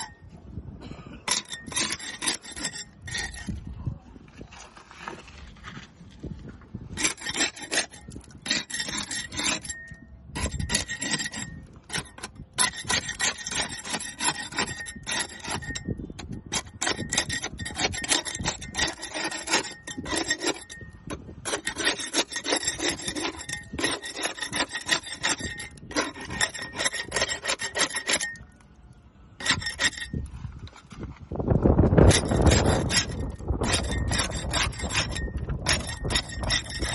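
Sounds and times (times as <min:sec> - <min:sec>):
barnacles scraped off boat hull: 0:01.3 - 0:28.6, 0:29.4 - 0:36.9.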